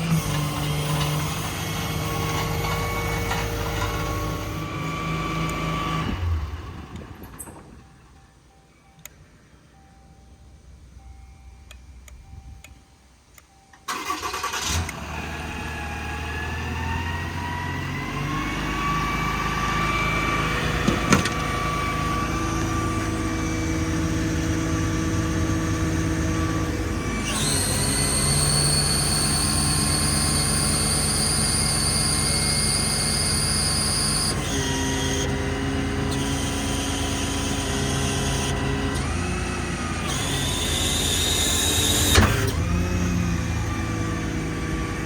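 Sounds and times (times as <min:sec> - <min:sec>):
heavy truck machinery running: 0:00.0 - 0:09.2, 0:10.4 - 0:45.0.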